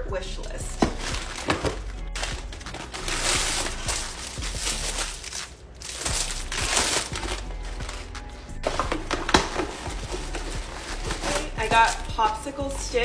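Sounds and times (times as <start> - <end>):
plastic wrap crinkling: 0.7 - 12.4
paper tearing and rustling: 0.9 - 12.1.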